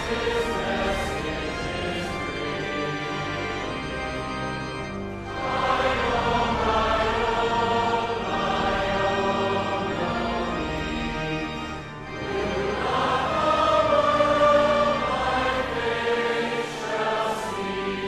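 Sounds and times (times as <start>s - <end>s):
choir singing a hymn: 0.0s - 4.4s, 5.2s - 18.0s.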